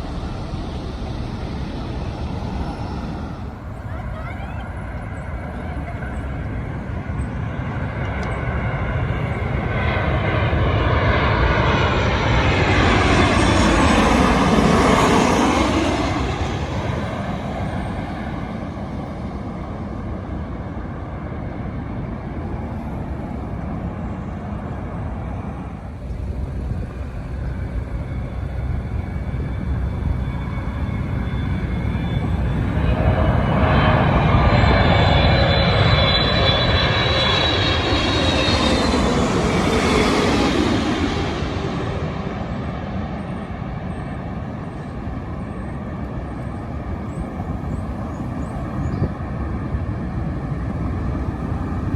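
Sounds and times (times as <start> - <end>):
jet airliner passing overhead: 0.0 - 51.9
jet engine whine: 0.0 - 51.9.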